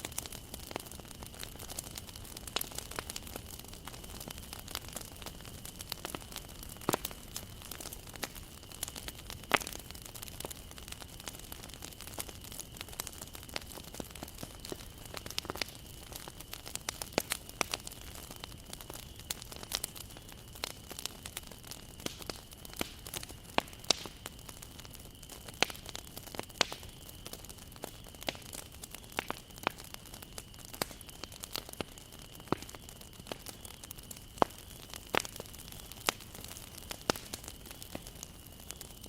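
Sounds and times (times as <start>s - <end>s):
faint steady hiss: 0.0s - 39.0s
wood fire crackling: 0.0s - 39.0s.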